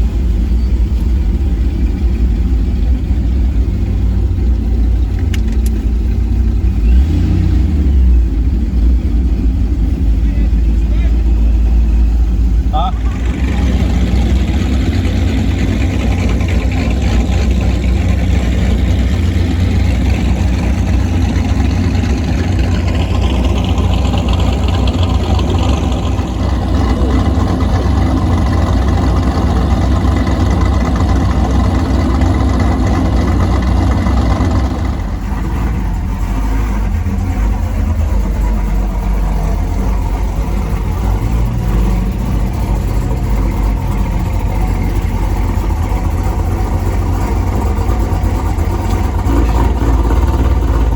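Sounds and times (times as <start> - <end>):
car exhaust rumbling: 0.0 - 50.9.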